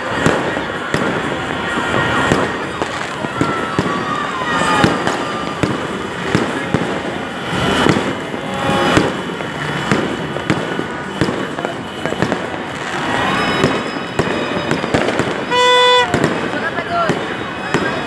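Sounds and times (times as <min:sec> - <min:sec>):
firecracker crackle: 0:00.0 - 0:18.0
fireworks bangs and pops: 0:00.0 - 0:18.0
rising firework whistle: 0:00.0 - 0:18.0.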